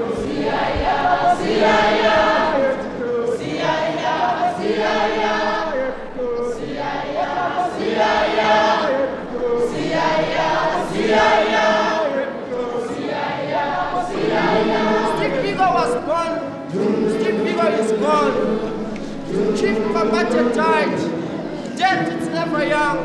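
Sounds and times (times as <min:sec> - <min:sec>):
crowd singing in harmony: 0:00.0 - 0:23.0.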